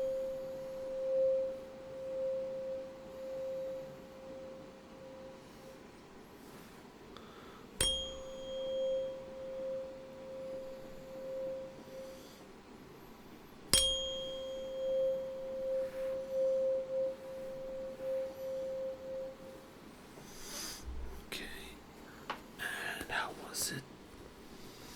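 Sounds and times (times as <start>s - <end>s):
tuning fork ringing: 0.0s - 21.5s.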